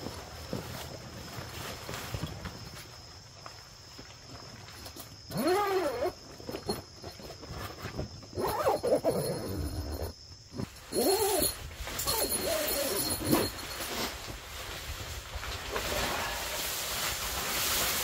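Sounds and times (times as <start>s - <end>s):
rustling: 0.0s - 3.2s, 4.3s - 18.0s.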